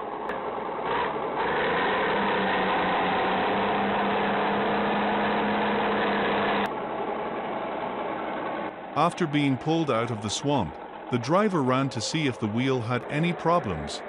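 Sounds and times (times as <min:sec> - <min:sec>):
heavy diesel engine under load: 0:00.0 - 0:14.0.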